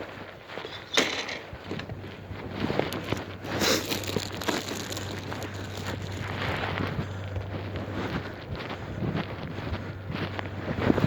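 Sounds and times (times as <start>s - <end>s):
wind buffeting microphone: 1.4s - 11.0s.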